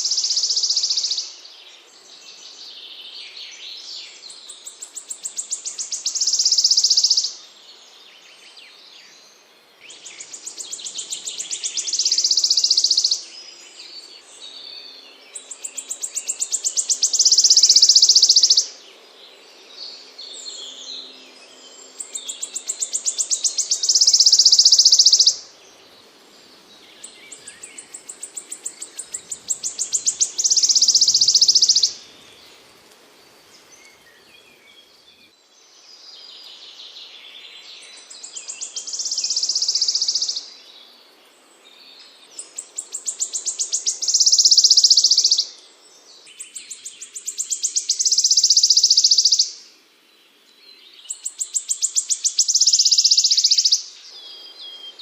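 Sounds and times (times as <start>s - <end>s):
songbird singing trill: 0.0s - 55.0s.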